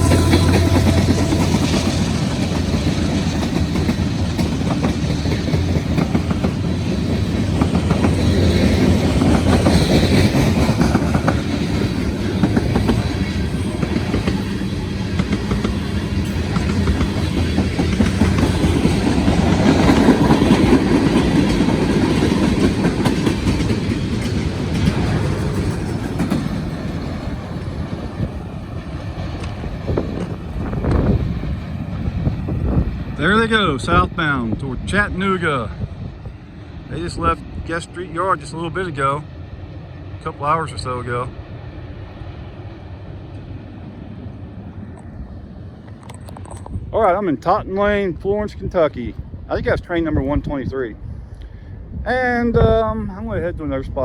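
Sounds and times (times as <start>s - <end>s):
freight train wheels clacking: 0.0s - 46.8s.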